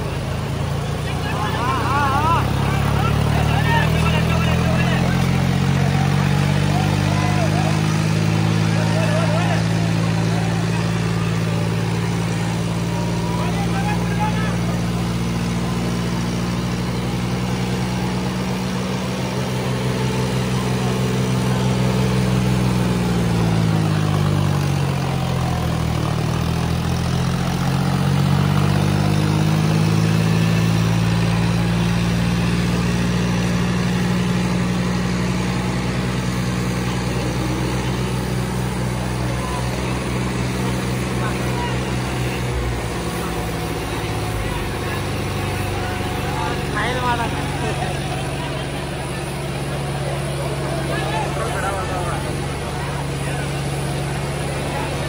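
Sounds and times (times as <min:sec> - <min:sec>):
tractor diesel engines labouring: 0:00.0 - 0:55.0.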